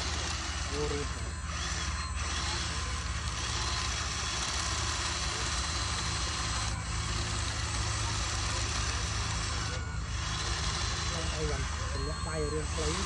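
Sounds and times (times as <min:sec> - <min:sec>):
motor hum with hiss: 0:00.0 - 0:13.0.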